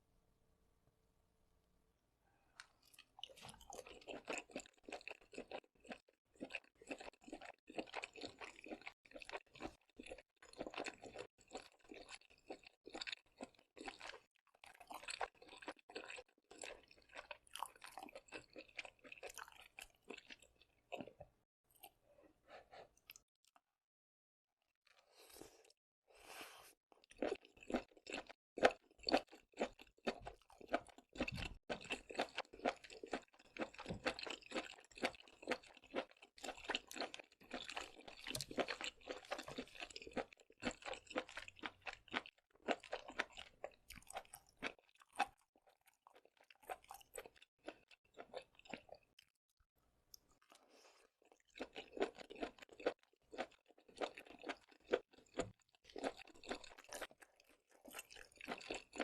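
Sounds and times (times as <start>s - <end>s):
crunchy wet chewing: 2.6s - 21.2s, 27.0s - 49.4s, 50.1s - 59.0s.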